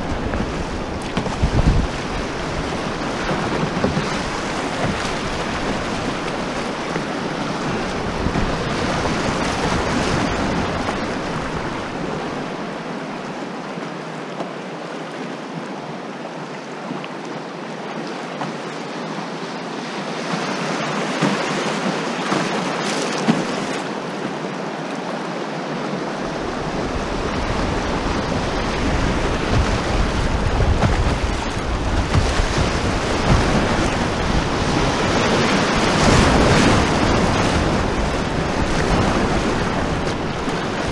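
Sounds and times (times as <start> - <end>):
whitewater rapids rushing: 0.0 - 40.9.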